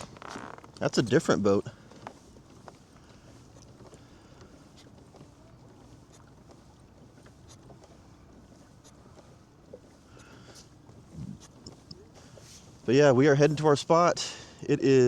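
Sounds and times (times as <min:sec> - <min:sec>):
drips and ticks against hull: 0:00.0 - 0:15.0
faint water lapping: 0:00.0 - 0:15.0.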